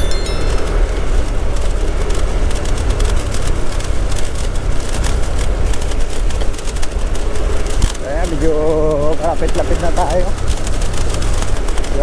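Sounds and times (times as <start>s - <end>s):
vehicle rumble: 0.4s - 12.0s.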